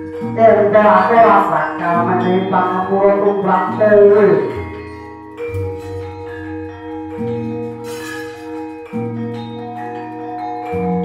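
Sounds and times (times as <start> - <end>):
gamelan playing: 0.0 - 11.0.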